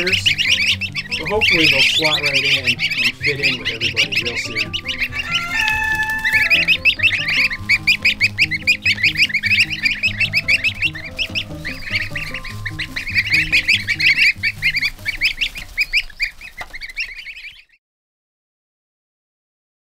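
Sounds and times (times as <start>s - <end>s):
soft music: 0.0s - 16.2s
goslings peeping: 0.0s - 17.8s.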